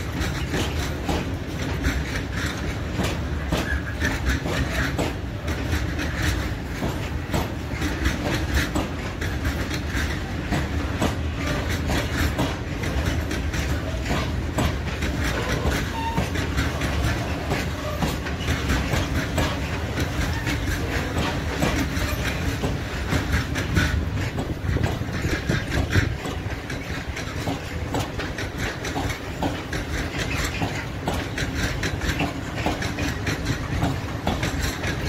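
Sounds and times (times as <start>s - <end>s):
train low rumble: 0.0s - 35.0s
train wheels clacking over rail joints: 0.0s - 35.0s.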